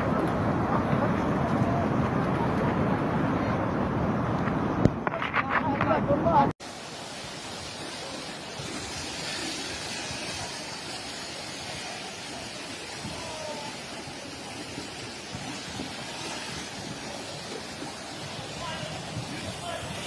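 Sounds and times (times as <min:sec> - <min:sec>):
floodwater rushing: 0:00.0 - 0:05.2, 0:06.2 - 0:20.0.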